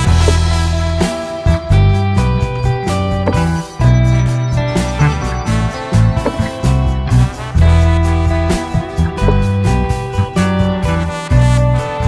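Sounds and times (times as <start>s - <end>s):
bass line: 0.0s - 12.0s
plucked guitar tune: 0.0s - 12.0s.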